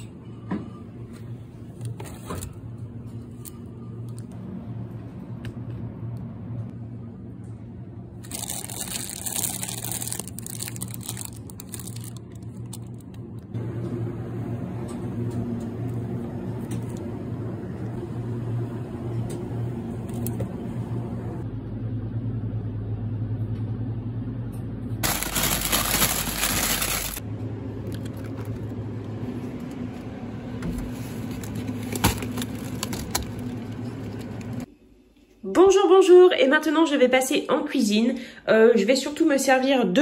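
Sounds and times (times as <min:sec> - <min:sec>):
refrigerator hum: 0:00.0 - 0:39.5.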